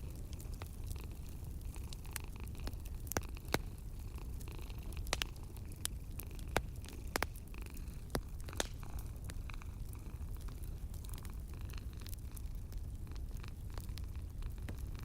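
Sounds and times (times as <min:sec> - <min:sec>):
cat purring: 0:00.0 - 0:15.0
wood fire crackling and popping: 0:00.0 - 0:15.0.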